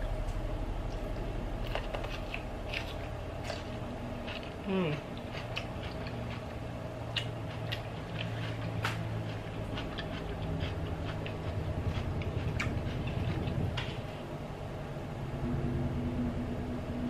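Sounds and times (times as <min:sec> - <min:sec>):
chewing crunchy vegetables: 0:00.0 - 0:14.1.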